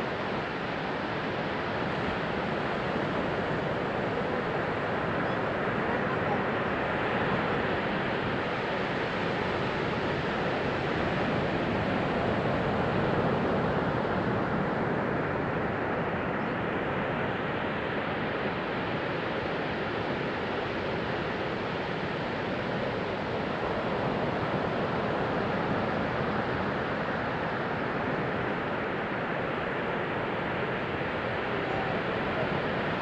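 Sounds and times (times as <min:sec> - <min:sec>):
surf washing on a beach: 0:00.0 - 0:33.0.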